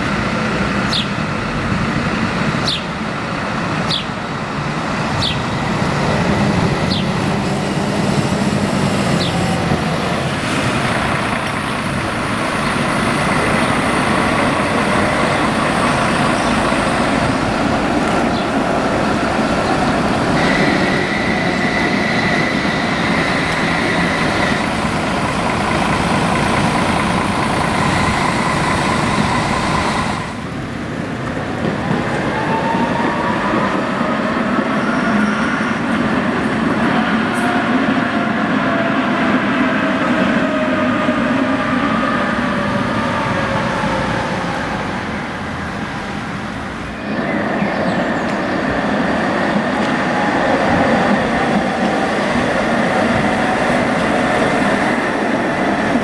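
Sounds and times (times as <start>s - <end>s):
street traffic: 0.0s - 56.0s
tram rumbling past on track: 0.0s - 56.0s.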